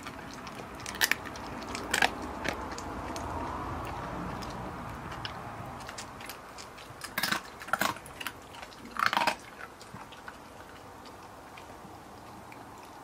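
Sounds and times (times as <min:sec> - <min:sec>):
dog chewing and crunching food: 0:00.0 - 0:13.0.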